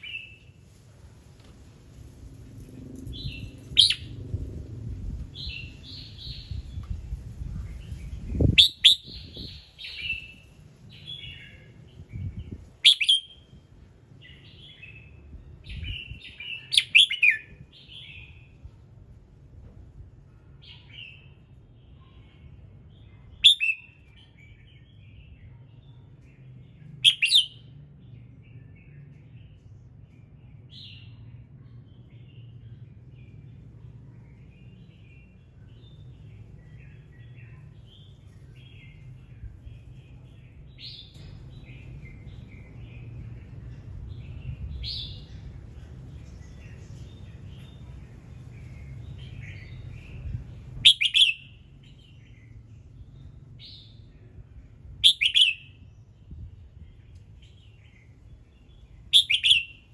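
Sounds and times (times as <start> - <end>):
bird singing clear phrases: 0.0 - 0.6, 2.7 - 4.3, 5.2 - 18.7, 20.3 - 59.9
low steady background hum: 0.0 - 59.9
soft bird chirps: 3.0 - 4.2, 5.4 - 13.6, 14.2 - 18.5, 20.6 - 33.5, 34.2 - 54.3, 55.0 - 59.9.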